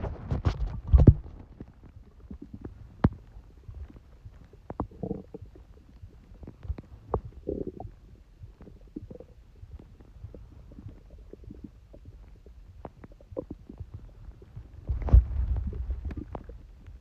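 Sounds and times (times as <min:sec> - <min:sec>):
stomach gurgles: 0:00.0 - 0:17.0
stomach popping: 0:00.0 - 0:17.0
stomach rumbling: 0:00.0 - 0:17.0.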